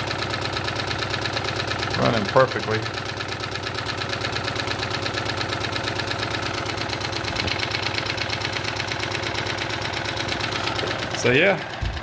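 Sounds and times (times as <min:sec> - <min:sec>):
steam engine running: 0:00.0 - 0:12.0.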